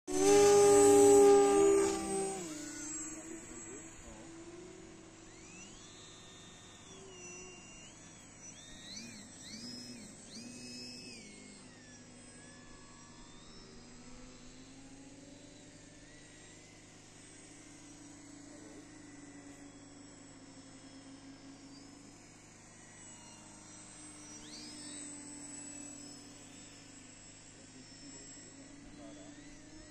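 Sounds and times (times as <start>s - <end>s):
whine of electric model plane motors: 0.0s - 29.9s.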